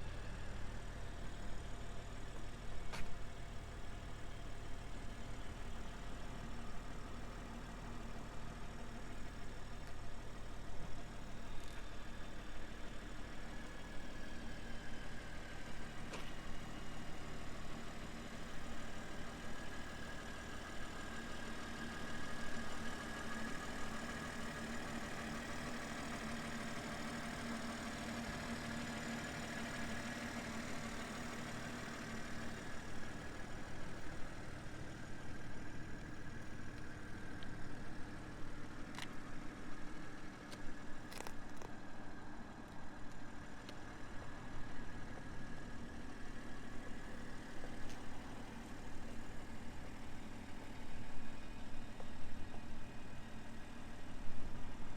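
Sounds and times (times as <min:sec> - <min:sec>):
vehicle engine idling: 0:00.0 - 0:54.9.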